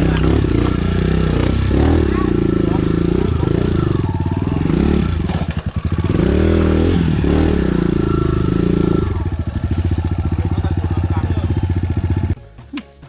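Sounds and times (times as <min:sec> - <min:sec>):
dirt bike engine revving: 0:00.0 - 0:12.4.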